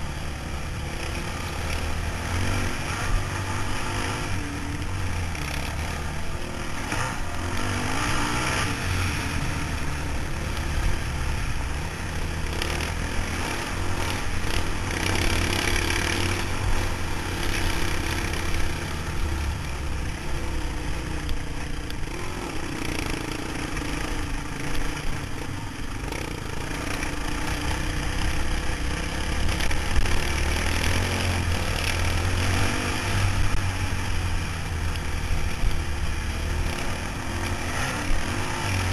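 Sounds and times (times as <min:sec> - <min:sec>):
motorcycle engine rumble: 0:00.0 - 0:38.9
rushing road noise: 0:00.0 - 0:38.9.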